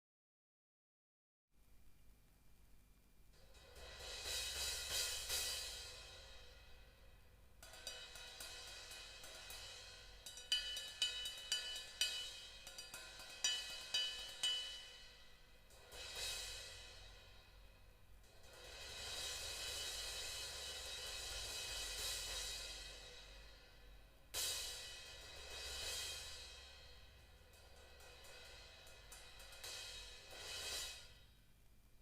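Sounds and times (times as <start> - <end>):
stick strikes on cymbal: 3.3 - 31.5
cymbal wash: 3.3 - 31.6.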